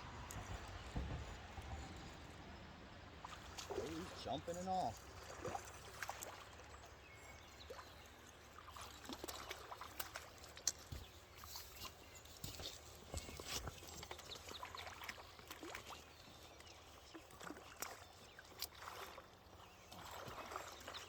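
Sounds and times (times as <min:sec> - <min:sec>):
river water trickling: 0:00.0 - 0:21.0.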